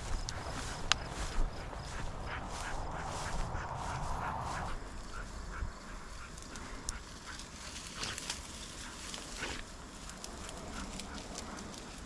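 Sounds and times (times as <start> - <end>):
crackling and rustling: 0.0 - 12.0.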